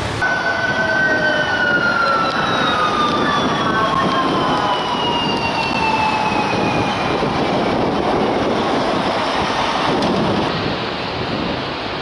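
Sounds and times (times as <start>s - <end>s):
falling whine: 0.0s - 10.9s
city street traffic: 0.0s - 12.0s.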